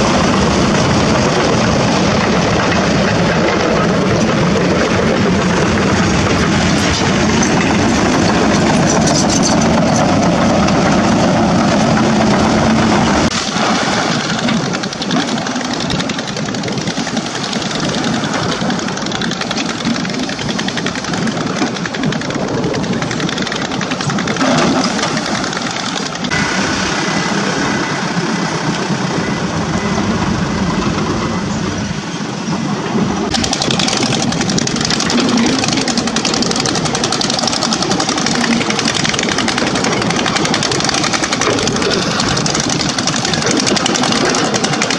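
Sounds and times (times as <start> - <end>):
heavy diesel engines: 0.0 - 44.9.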